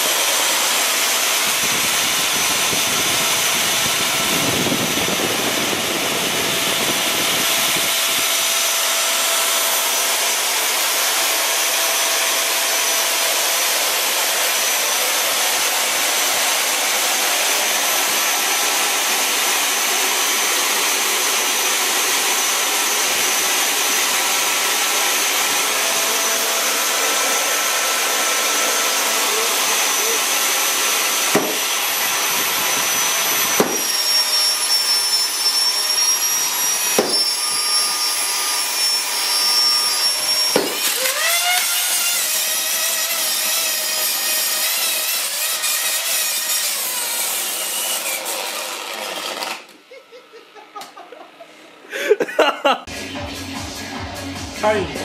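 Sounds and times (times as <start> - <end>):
vacuum cleaner motor whine: 0.0 - 45.4.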